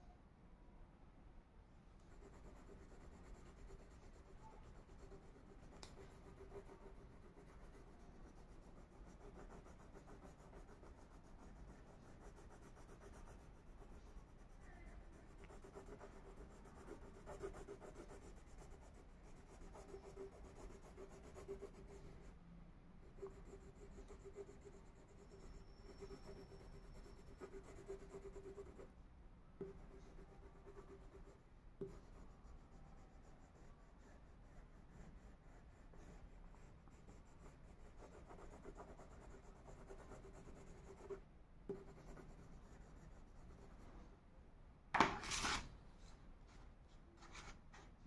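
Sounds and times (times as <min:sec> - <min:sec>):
wax crayon scribbling on paper: 0:02.1 - 0:22.3, 0:23.0 - 0:28.9, 0:29.6 - 0:43.9.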